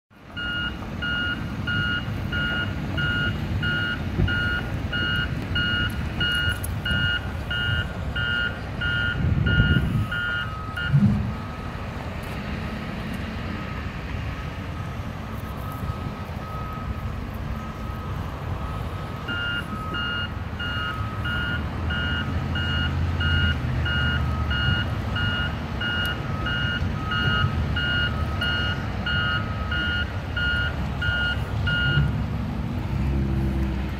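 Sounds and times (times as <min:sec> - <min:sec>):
diesel engine rumble: 0:00.1 - 0:33.9
reversing alarm beeping: 0:00.3 - 0:12.0, 0:14.7 - 0:32.2.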